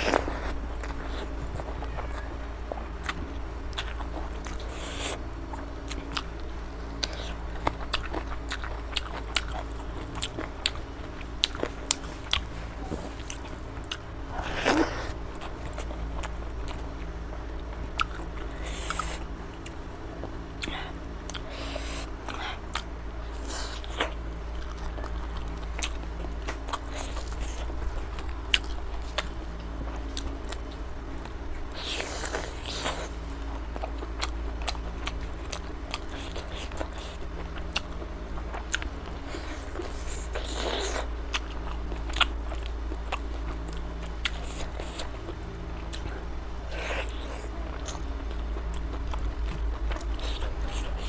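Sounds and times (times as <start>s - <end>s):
person chewing food: 0.0s - 51.0s
steady low hum: 0.0s - 51.0s.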